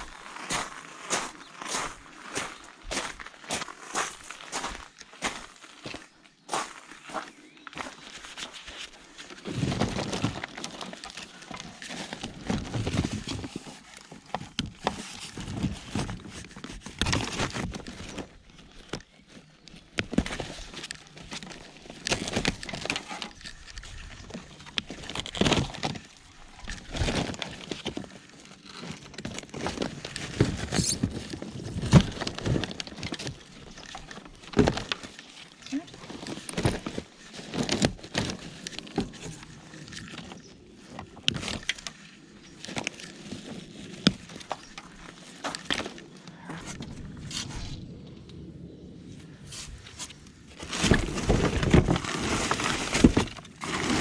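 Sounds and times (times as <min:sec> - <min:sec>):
rubble clattering and scraping: 0:00.0 - 0:54.0.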